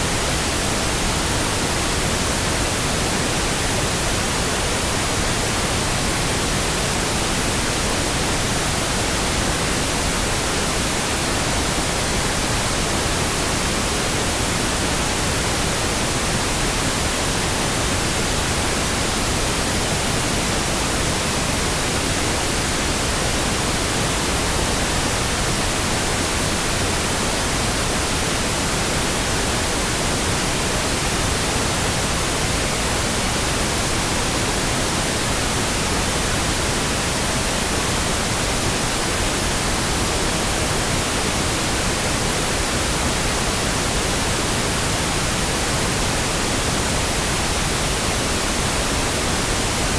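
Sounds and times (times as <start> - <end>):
steady pink noise hiss: 0.0 - 49.9.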